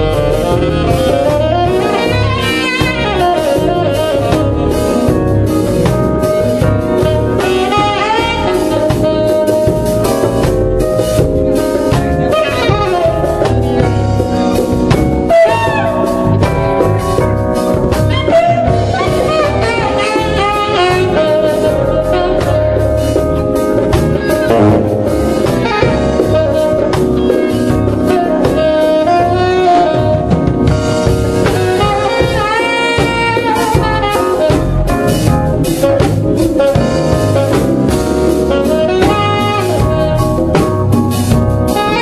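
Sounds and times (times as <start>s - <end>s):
bass: 0.0s - 42.0s
drum kit beat: 0.0s - 42.0s
keyboard: 0.0s - 42.0s
saxophone melody: 0.0s - 42.0s.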